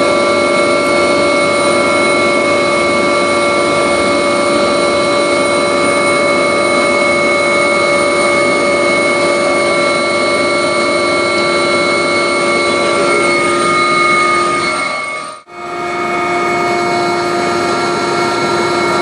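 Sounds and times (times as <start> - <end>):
helicopter engine and rotor: 0.0 - 19.0
steady whining tones: 0.0 - 19.0.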